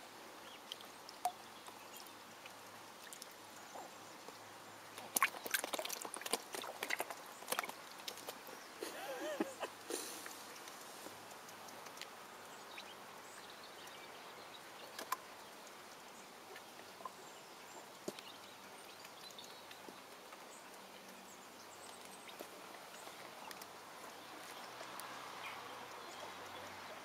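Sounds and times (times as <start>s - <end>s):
ducklings splashing in water: 0.4s - 27.0s.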